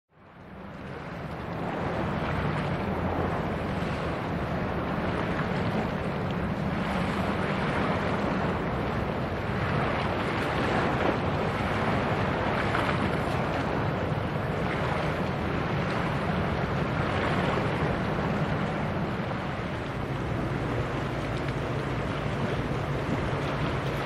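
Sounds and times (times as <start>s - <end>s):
moving water: 0.1s - 24.0s
ship engine low drone: 0.1s - 24.0s
wind on microphone: 0.2s - 24.0s.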